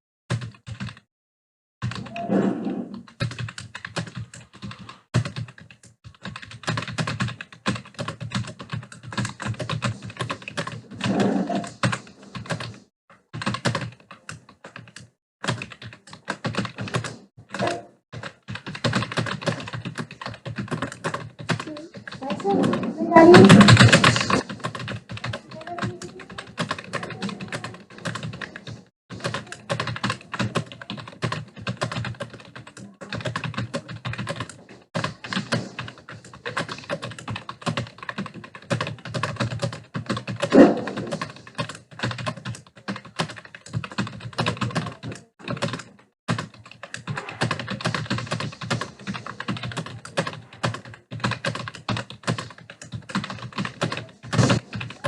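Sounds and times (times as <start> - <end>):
typing on keyboard: 0.3 - 1.1, 1.8 - 2.3, 3.1 - 55.0.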